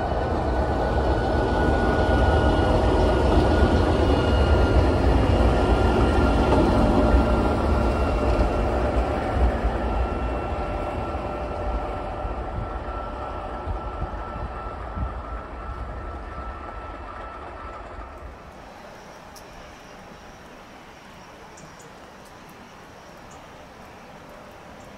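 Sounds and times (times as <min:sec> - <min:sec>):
locomotive engine rumble: 0:00.0 - 0:24.9.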